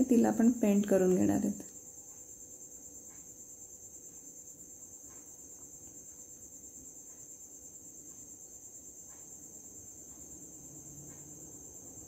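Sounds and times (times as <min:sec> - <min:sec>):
cricket trilling: 0:00.0 - 0:12.0
faint small ticks: 0:01.5 - 0:12.0.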